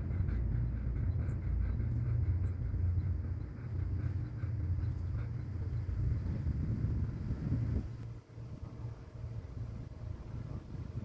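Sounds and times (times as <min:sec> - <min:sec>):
barge diesel engine rumble: 0:00.0 - 0:11.0
wind buffeting microphone: 0:00.0 - 0:11.0.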